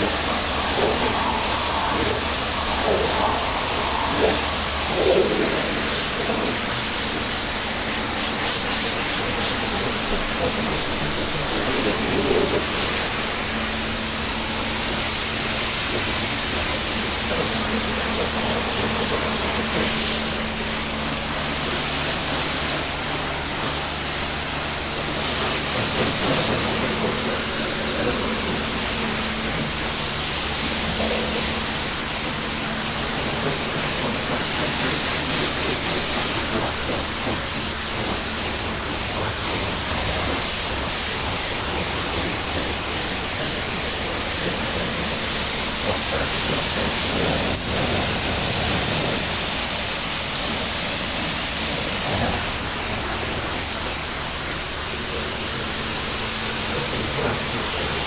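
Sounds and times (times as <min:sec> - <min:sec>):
faint motor hum: 0:00.0 - 0:58.0
pressure washer spraying: 0:00.0 - 0:58.0.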